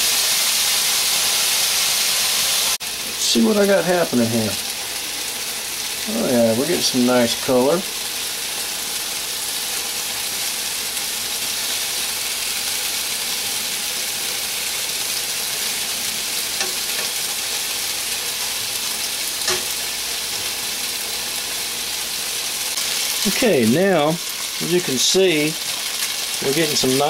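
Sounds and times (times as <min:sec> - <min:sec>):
chicken wings sizzling in a pan: 0:00.0 - 0:27.0.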